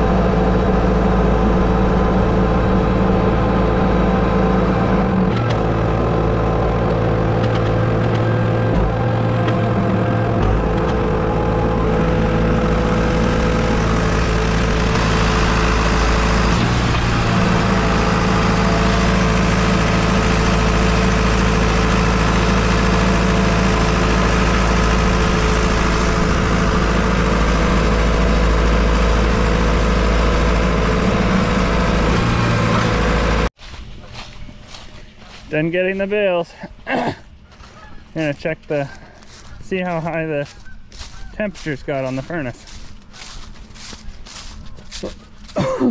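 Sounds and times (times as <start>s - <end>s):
tractor engine running: 0.0s - 33.7s, 34.6s - 45.9s.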